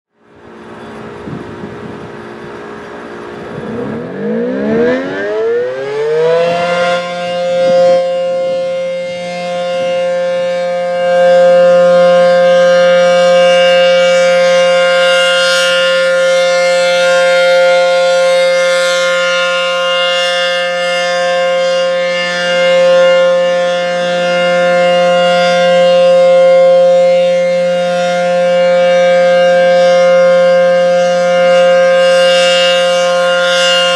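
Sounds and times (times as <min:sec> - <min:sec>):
warning siren winding up: 0:00.3 - 0:33.9.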